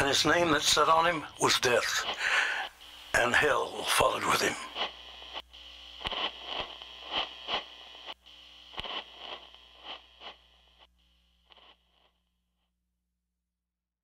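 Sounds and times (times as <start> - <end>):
crackly scraping pulses: 0.0 - 12.2.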